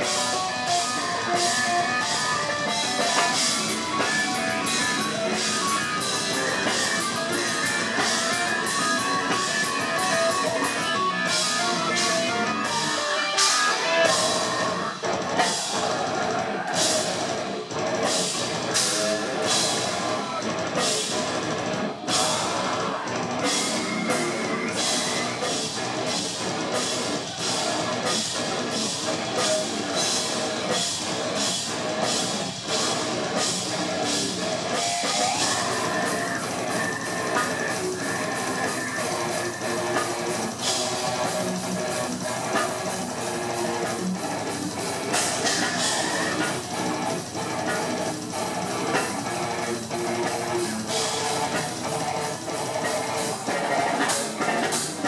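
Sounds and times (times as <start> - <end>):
bass guitar: 0.0 - 55.0
drum kit and cymbal hits: 0.0 - 55.0
heavy distorted electric guitars: 0.0 - 55.0.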